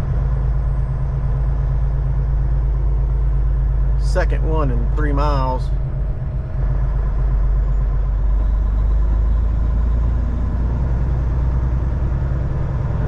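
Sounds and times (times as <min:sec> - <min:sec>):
road noise: 0:00.0 - 0:13.0
truck diesel engine drone: 0:00.0 - 0:13.0.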